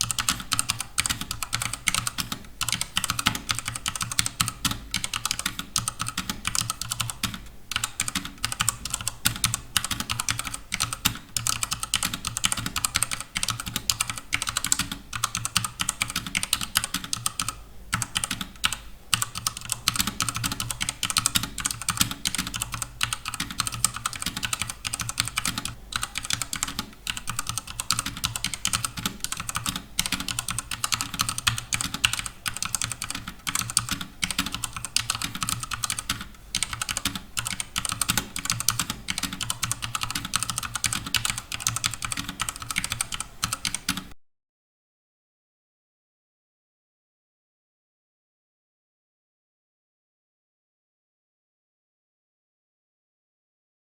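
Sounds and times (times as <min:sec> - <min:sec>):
mechanical keyboard typing clicks: 0:00.0 - 0:44.2.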